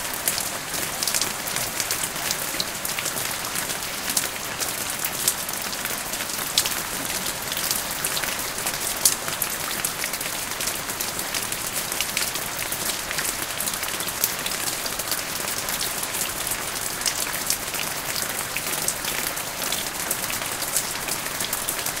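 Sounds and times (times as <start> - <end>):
rain on a hard surface: 0.0 - 22.0.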